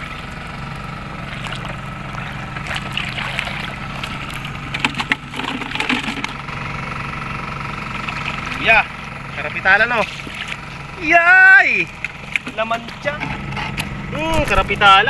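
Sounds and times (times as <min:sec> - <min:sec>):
seawater splashing and sloshing: 0:00.0 - 0:06.5, 0:07.8 - 0:11.0, 0:11.6 - 0:14.8
steady engine hum: 0:00.0 - 0:15.0.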